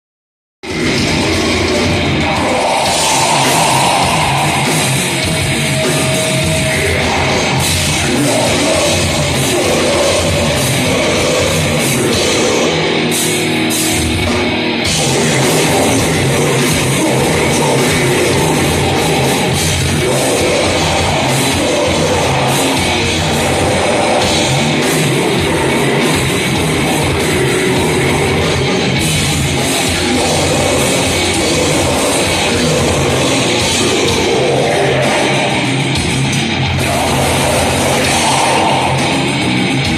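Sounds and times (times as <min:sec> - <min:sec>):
distorted electric guitars: 0:00.6 - 0:39.9
drums: 0:00.6 - 0:39.9
heavy metal music: 0:00.6 - 0:39.9.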